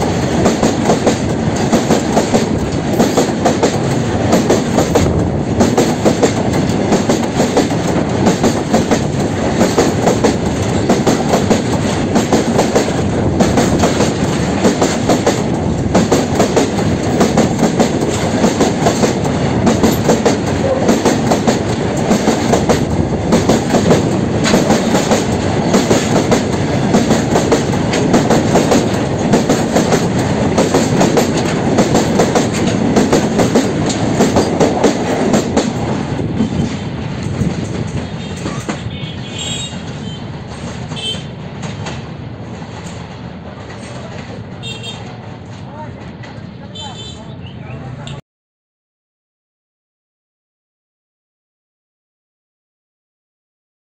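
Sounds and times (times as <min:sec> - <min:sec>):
freight train passing: 0:00.0 - 0:48.2
wheels clickety-clack on rail: 0:00.0 - 0:48.2.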